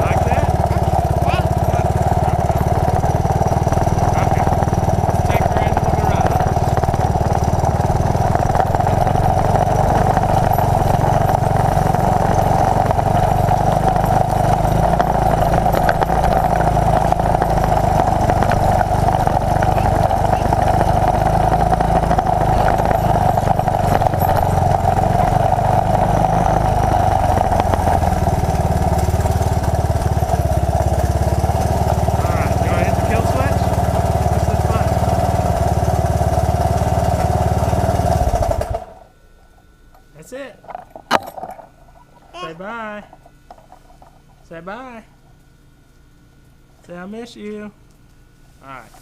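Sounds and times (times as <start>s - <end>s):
motorcycle engine running: 0.0s - 46.7s.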